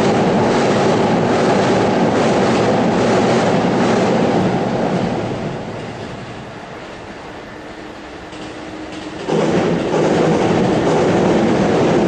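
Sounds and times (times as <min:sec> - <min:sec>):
train running on rails: 0:00.0 - 0:12.0.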